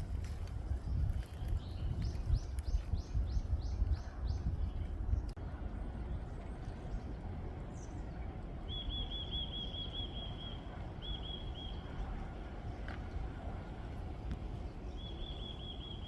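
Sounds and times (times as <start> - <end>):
wind rumble on microphone: 0.0 - 9.2, 10.2 - 16.0.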